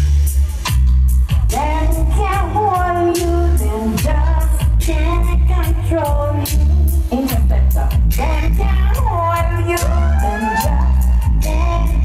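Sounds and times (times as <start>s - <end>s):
deep heavy bass line: 0.0s - 12.0s
drums and hi-hats: 0.0s - 12.0s
person singing: 1.5s - 12.0s.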